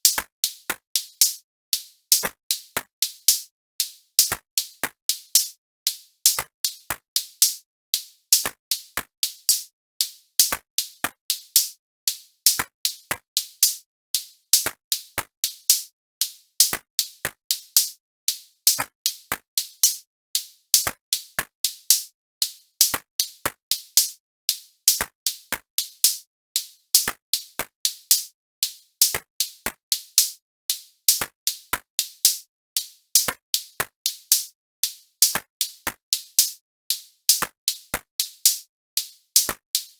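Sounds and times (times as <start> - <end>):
drum machine beat: 0.0 - 11.7, 12.5 - 20.0, 20.8 - 39.9.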